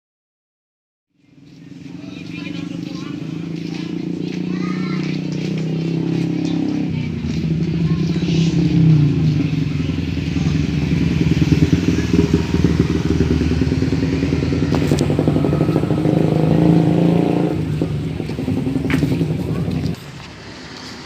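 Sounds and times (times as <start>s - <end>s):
engine running steadily: 1.2s - 21.0s.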